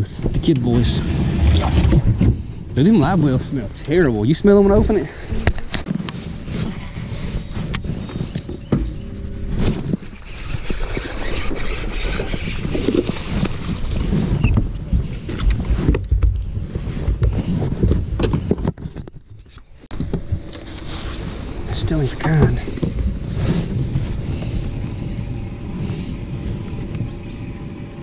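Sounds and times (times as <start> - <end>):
low rumbling: 0.0 - 28.0.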